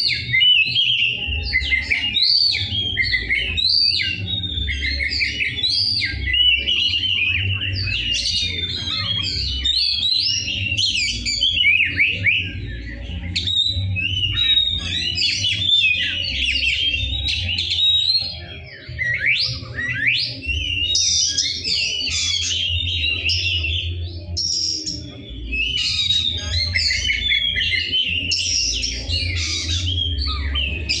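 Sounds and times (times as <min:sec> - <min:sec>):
magpie-robin singing: 0:00.0 - 0:31.0.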